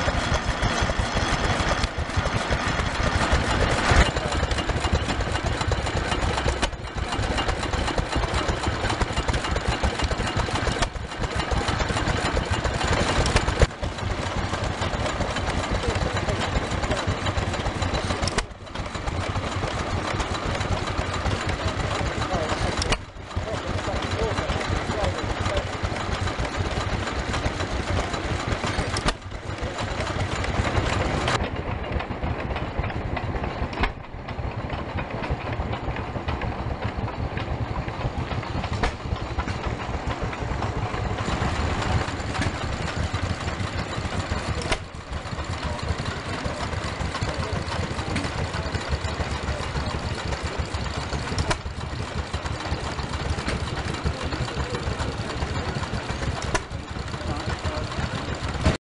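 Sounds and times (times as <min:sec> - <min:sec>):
stationary engines running: 0:00.0 - 0:58.8.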